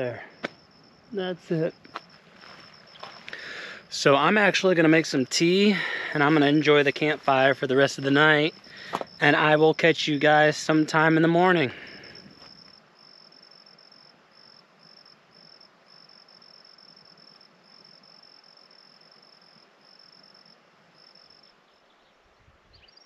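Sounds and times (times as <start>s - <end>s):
cricket trilling: 0.0s - 21.9s.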